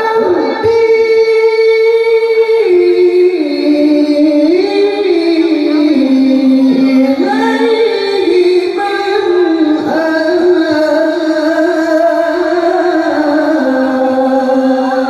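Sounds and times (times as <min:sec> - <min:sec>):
man chanting through loudspeaker: 0:00.0 - 0:15.0.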